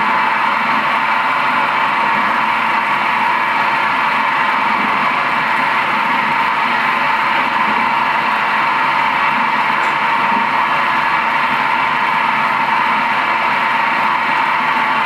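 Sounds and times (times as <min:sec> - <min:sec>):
bowl cutter machine whining: 0:00.0 - 0:15.0.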